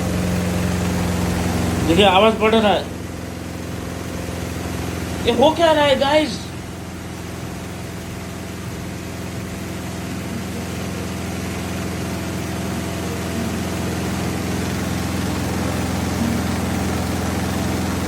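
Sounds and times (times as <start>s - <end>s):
washing machine spinning hum: 0.0s - 18.0s.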